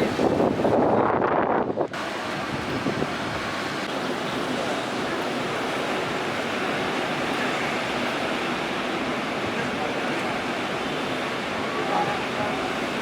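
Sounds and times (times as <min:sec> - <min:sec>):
rough sea waves: 0:00.0 - 0:13.0
wind: 0:00.0 - 0:13.0.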